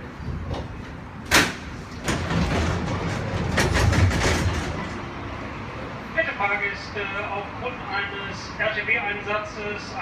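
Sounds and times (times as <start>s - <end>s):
suspended train rumbling on rail: 0.0s - 8.3s.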